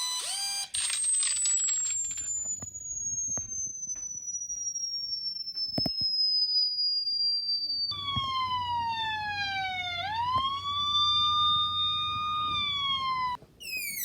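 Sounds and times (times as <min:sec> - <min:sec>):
rising electronic chirp: 0:01.0 - 0:14.0
high electronic tone sliding down: 0:01.2 - 0:06.7, 0:07.5 - 0:14.0.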